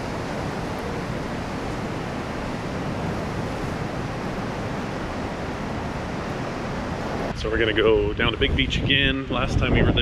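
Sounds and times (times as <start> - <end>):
surf breaking on rocky shore: 0.0 - 9.9
wind on microphone: 0.0 - 10.0.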